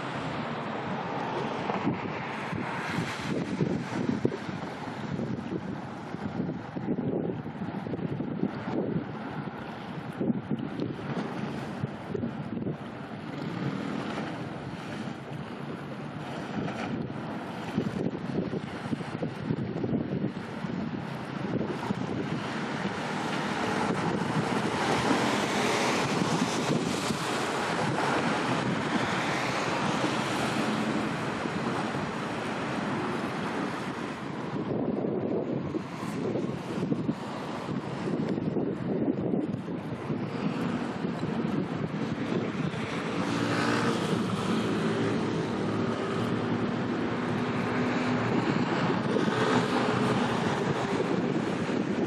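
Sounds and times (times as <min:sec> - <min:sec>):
ship engine drone: 0:00.0 - 0:52.0
wash of open water: 0:00.0 - 0:52.0
wind buffeting microphone: 0:00.0 - 0:52.0.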